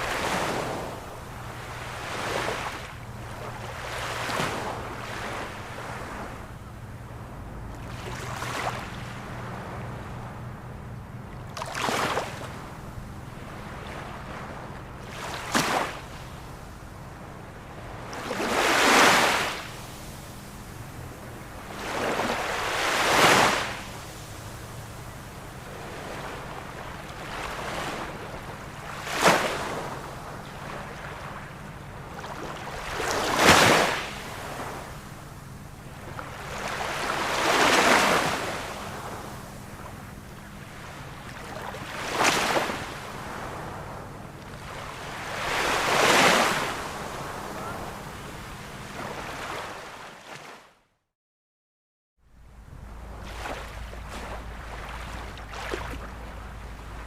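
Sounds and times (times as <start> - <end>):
ocean waves breaking: 0.0 - 50.7, 52.7 - 57.0.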